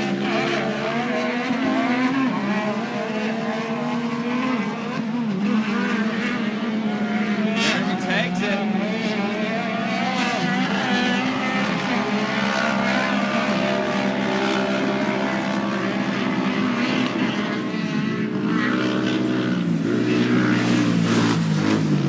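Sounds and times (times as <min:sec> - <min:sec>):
race car engines revving: 0:00.4 - 0:22.0.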